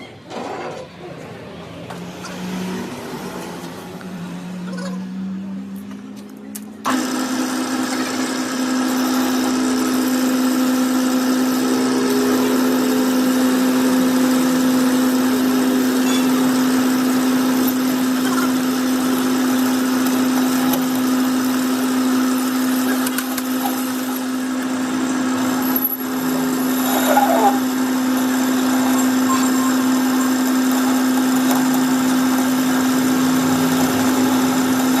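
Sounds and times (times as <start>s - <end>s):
workshop machine humming: 0.0s - 35.0s.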